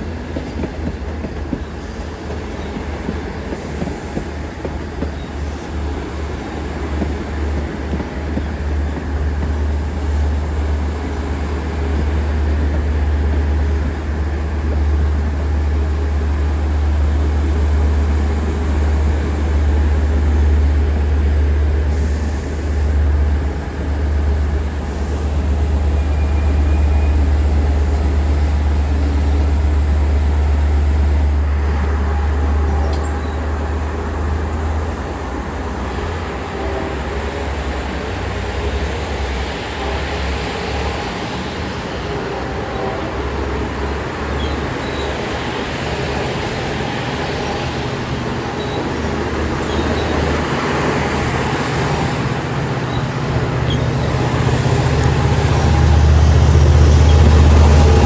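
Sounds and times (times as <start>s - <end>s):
diesel train rumble: 0.0s - 58.0s
train rolling noise: 0.0s - 58.0s.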